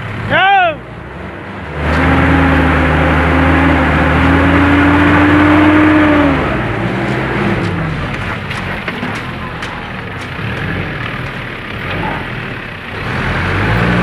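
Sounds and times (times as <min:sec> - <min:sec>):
engines revving under load: 0:00.0 - 0:14.0.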